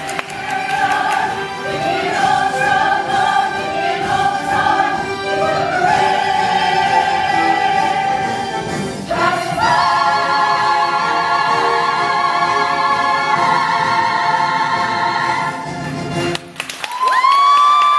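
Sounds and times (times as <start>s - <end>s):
cast and chorus singing: 0.0s - 15.8s.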